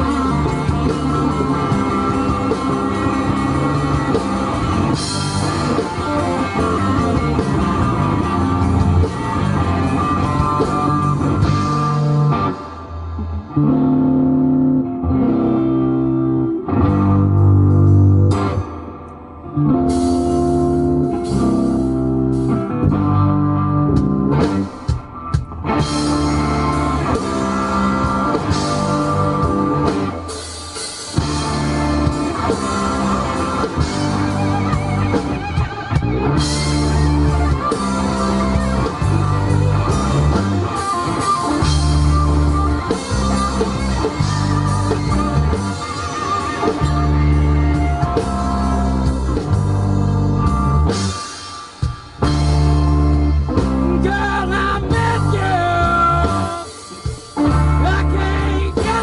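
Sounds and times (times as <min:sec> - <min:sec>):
blues-rock band playing: 0:00.0 - 0:59.0.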